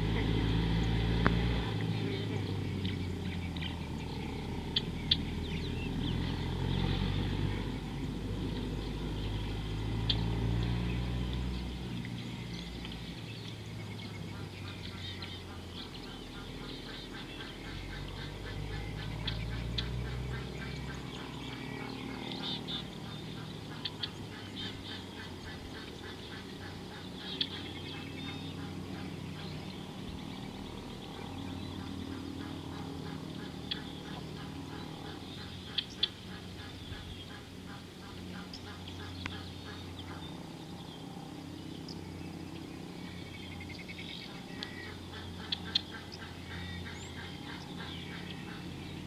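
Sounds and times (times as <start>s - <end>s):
birds calling and chirping: 0.0s - 49.0s.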